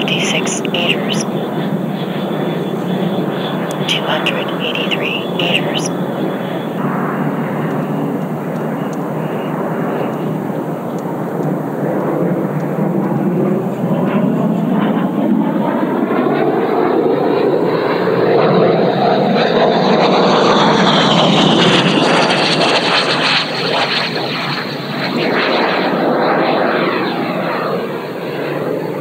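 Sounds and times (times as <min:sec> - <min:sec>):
model jet fan whine passing: 0:01.2 - 0:04.5, 0:05.9 - 0:29.0.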